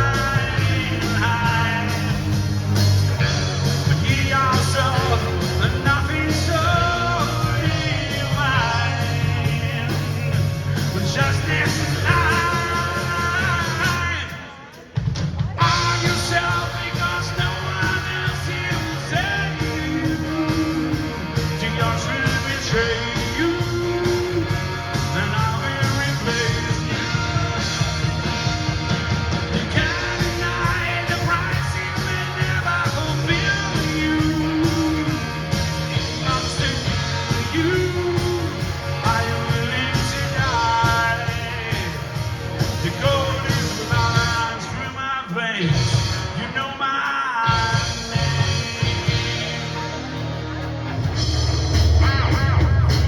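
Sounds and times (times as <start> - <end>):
melodic lead line: 0.0 - 14.2, 15.6 - 44.9, 47.5 - 53.0
bass guitar: 0.0 - 53.0
drums: 0.0 - 53.0.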